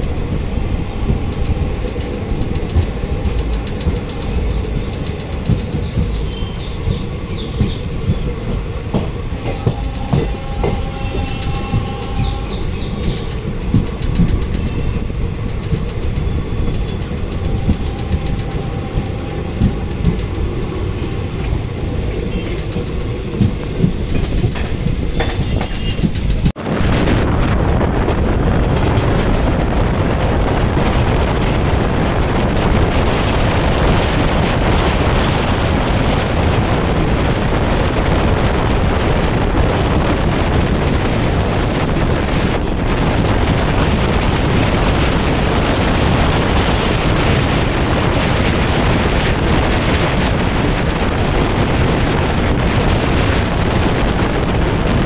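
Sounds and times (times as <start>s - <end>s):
rush of wind and running noise: 0.0s - 55.0s
train wheels clicking over joints: 0.0s - 55.0s.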